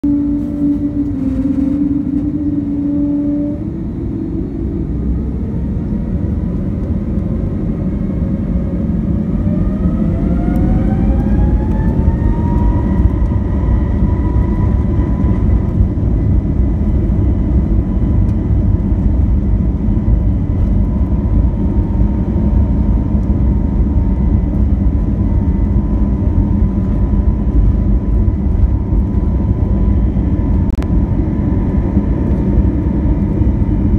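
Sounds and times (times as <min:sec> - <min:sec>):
jet engine whine: 0:00.0 - 0:33.9
loud engine rumble: 0:00.0 - 0:33.9.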